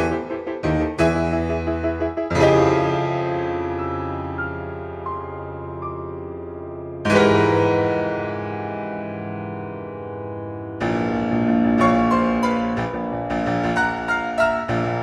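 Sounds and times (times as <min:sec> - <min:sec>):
keyboard music: 0:00.0 - 0:15.0.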